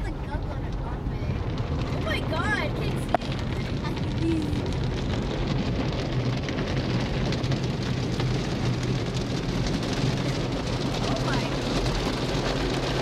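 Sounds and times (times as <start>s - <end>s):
water jets drumming on car: 0.0s - 13.0s.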